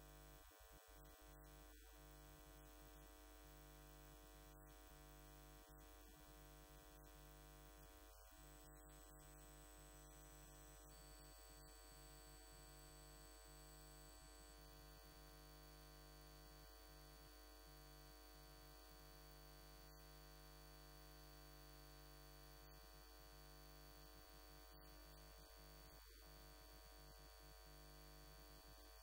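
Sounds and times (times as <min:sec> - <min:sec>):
faint electrical hum and hiss: 0:00.0 - 0:29.0.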